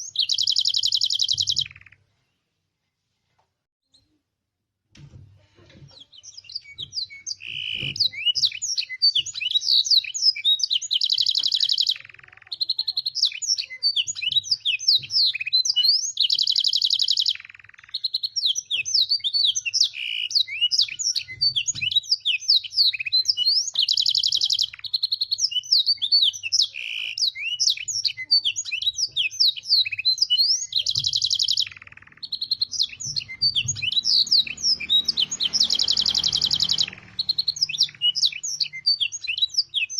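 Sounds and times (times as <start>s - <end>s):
canary singing chirps and trills: 0.0s - 2.2s, 5.7s - 39.9s.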